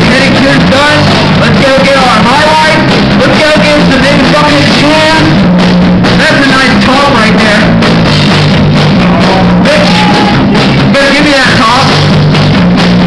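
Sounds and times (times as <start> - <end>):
bass: 0.0 - 13.0
drums: 0.0 - 13.0
electric guitars: 0.0 - 13.0.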